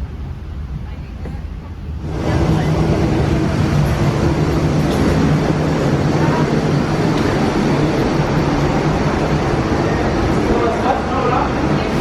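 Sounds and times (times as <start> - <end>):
vehicle engine drone: 2.0 - 12.0.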